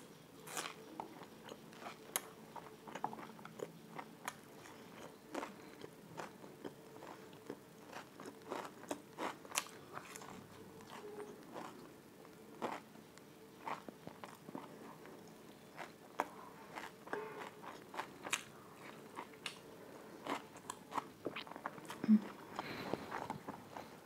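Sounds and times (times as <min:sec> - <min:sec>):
chewing and biting food: 0:00.5 - 0:11.9, 0:12.6 - 0:12.9, 0:13.6 - 0:23.9.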